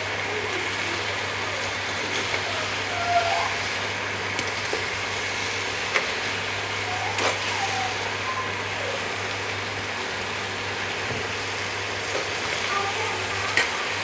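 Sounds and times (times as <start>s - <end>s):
cooking hiss: 0.0s - 14.0s.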